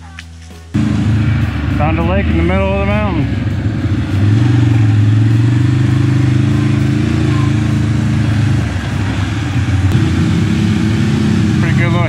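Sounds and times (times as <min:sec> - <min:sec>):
engine pulling under load: 0:00.8 - 0:12.0.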